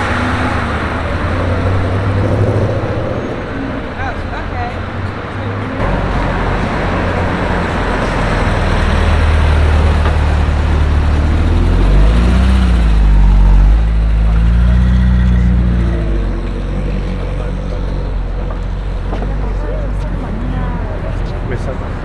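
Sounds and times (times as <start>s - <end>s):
street traffic: 0.0s - 22.0s
vehicle engine accelerating: 0.0s - 22.0s.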